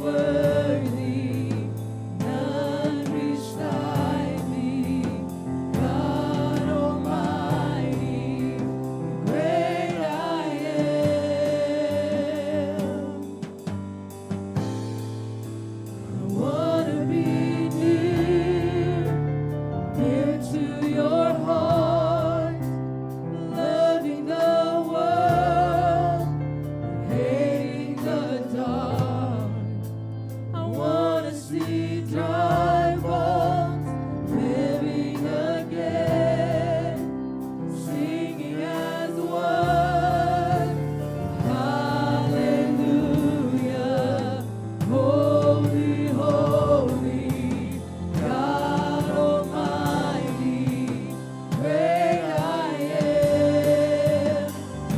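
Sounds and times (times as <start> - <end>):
choir singing with vibrato: 0.0 - 13.7, 15.8 - 30.0, 30.6 - 54.9.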